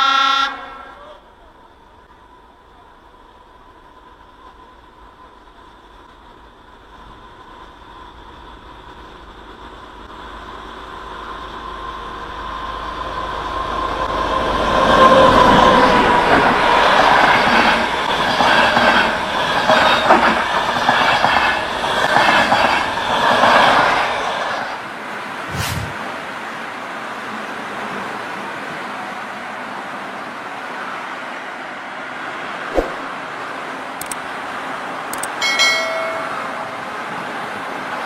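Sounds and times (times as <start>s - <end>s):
train passing: 0.0s - 38.0s.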